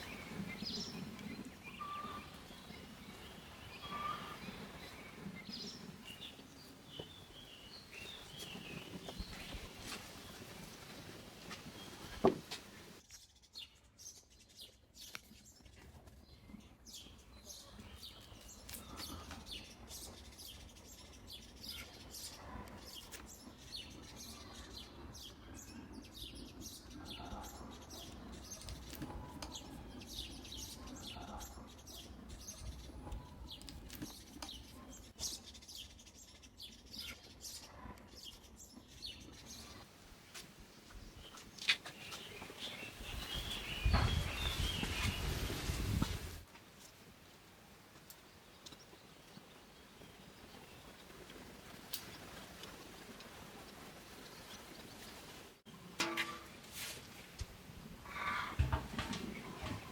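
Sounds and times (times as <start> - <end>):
small birds chirping: 0.0 - 55.7.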